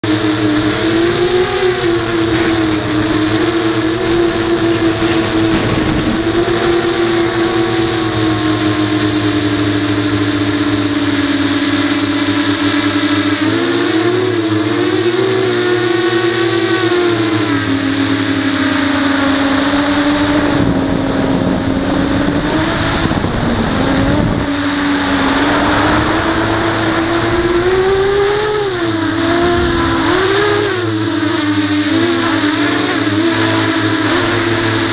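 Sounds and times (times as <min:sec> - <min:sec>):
drone motors whining: 0:00.0 - 0:34.9.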